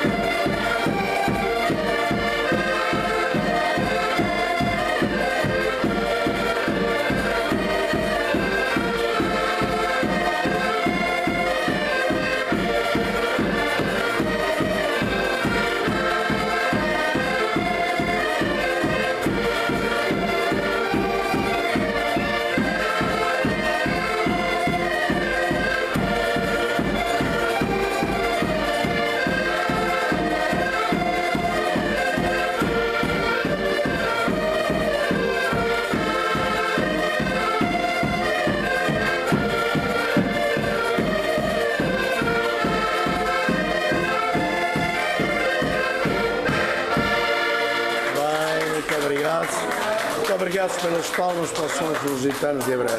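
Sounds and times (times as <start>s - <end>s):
bass drum beating: 0.0s - 48.3s
accordions playing folk tune: 0.0s - 52.9s.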